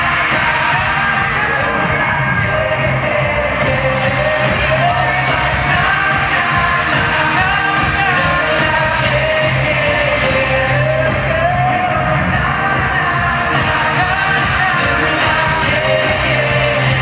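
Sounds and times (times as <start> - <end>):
live band playing: 0.0 - 17.0
male vocal group singing: 0.0 - 17.0.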